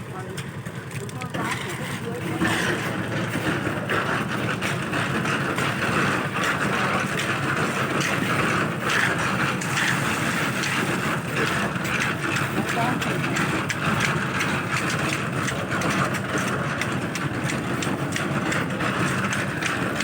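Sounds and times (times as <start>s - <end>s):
concrete mixer running: 0.0s - 20.0s.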